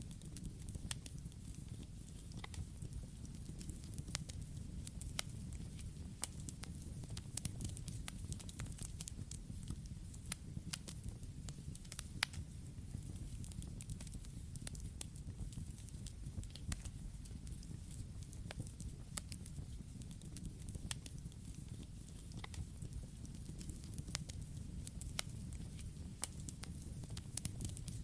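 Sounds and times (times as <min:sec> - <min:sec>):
campfire crackling: 0:00.1 - 0:28.0.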